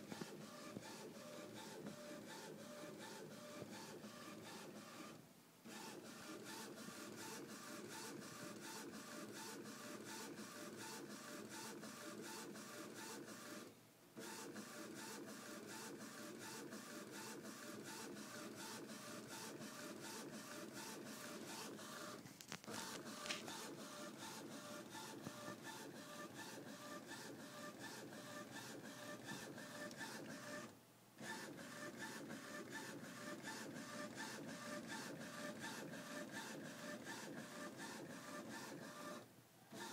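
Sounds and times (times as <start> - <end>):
printer mechanical ticking: 0.0 - 13.6, 14.2 - 39.2.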